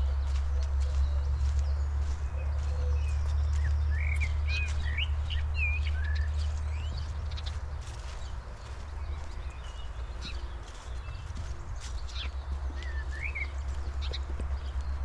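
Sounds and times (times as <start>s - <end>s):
footsteps on forest floor: 0.0s - 15.0s
small songbirds chirping: 0.0s - 15.0s.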